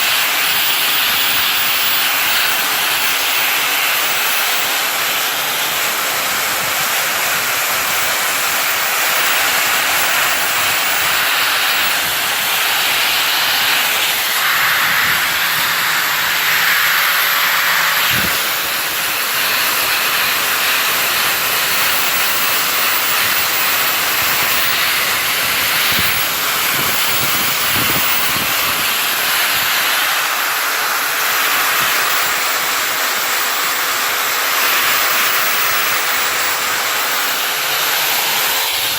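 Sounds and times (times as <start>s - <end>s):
buffing wheel scouring metal: 0.0s - 38.9s
faint motor whine: 0.0s - 38.9s.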